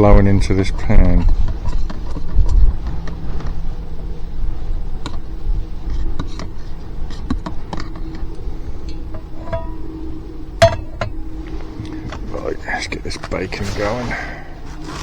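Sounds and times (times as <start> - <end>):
gas stove burning: 0.0 - 15.0
wind rumbling on microphone: 0.0 - 15.0.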